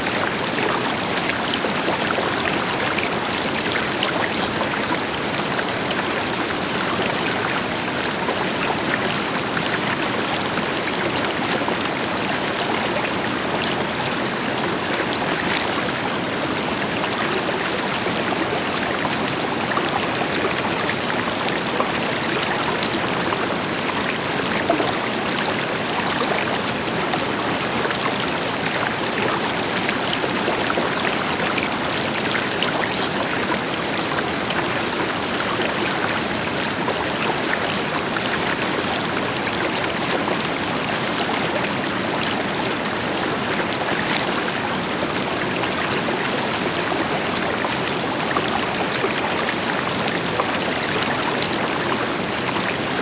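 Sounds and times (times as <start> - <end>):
river water over rocks: 0.0 - 53.0.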